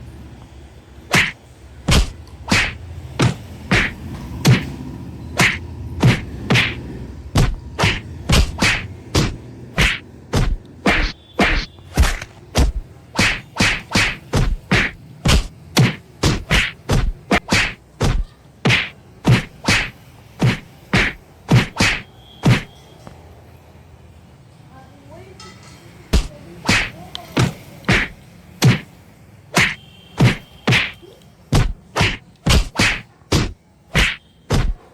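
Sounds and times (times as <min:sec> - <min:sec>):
sharp whacking strikes: 0:01.1 - 0:04.8, 0:05.4 - 0:22.7, 0:26.2 - 0:29.0, 0:29.6 - 0:34.9.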